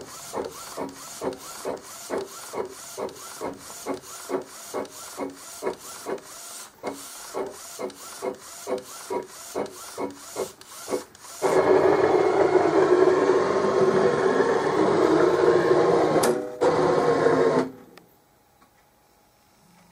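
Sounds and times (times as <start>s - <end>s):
printer carriage whirring: 0.0s - 17.9s.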